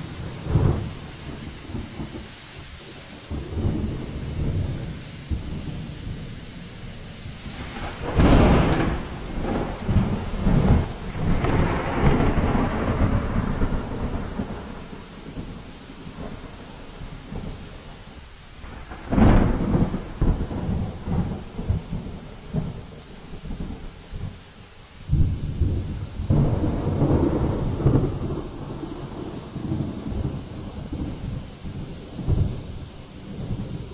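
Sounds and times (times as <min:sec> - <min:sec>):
rolling thunder: 0:00.0 - 0:17.7, 0:18.6 - 0:24.4, 0:25.1 - 0:33.9
steady rain: 0:00.0 - 0:33.9.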